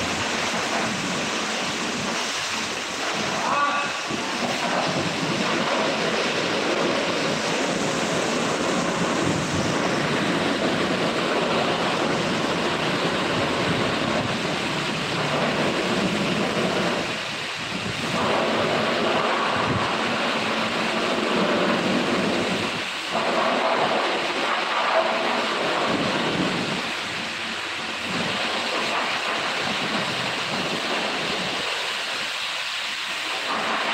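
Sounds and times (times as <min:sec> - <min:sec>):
pressure washer spraying car: 0:00.0 - 0:33.9.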